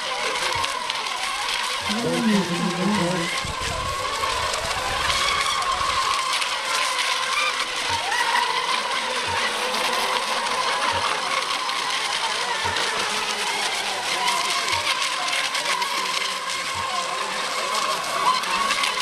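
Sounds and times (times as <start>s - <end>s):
boat motors whining: 0.0s - 19.0s.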